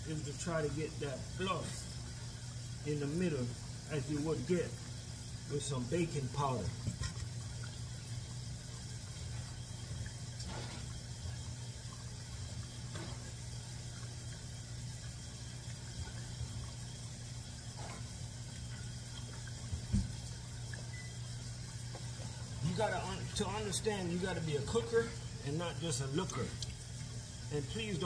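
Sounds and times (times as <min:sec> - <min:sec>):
oil bubbling and sizzling: 0:00.0 - 0:28.0.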